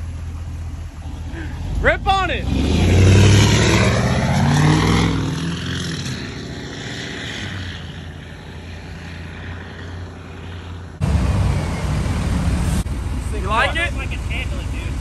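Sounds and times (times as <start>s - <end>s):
diesel pickup accelerating: 0.0s - 15.0s.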